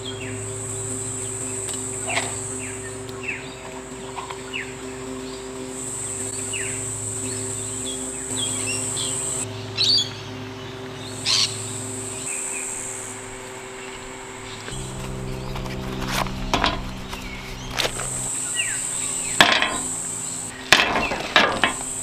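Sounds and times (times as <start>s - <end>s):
birds chirping: 0.0s - 22.0s
high insect buzz: 0.0s - 22.0s
low steady hum: 0.0s - 22.0s.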